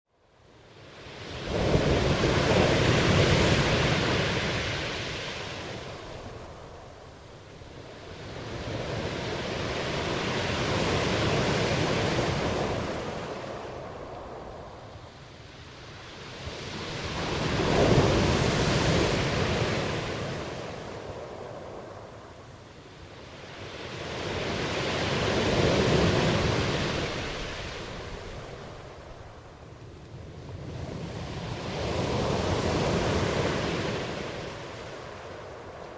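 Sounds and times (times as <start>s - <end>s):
waves surging and receding: 0.5s - 35.9s.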